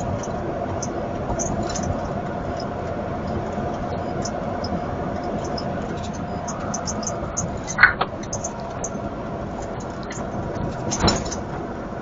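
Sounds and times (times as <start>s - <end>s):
constant hum: 0.0s - 12.0s
vehicle driving rumble: 0.0s - 12.0s.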